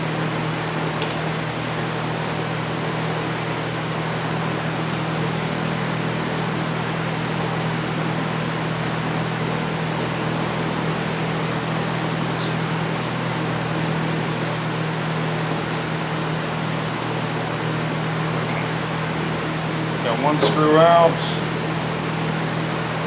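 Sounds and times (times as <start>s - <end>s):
fan humming and hissing: 0.0s - 23.0s.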